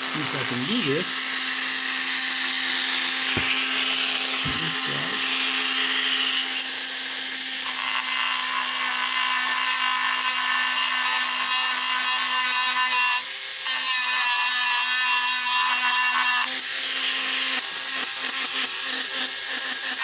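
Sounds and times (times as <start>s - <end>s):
rotary tool grinding: 0.0s - 20.0s.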